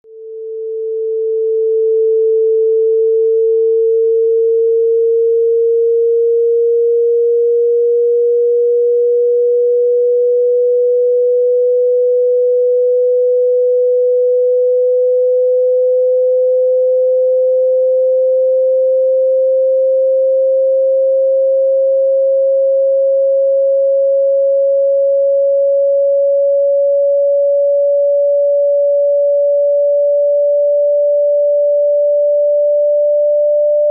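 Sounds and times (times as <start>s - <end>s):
sine tone rising in pitch: 0.0s - 33.9s.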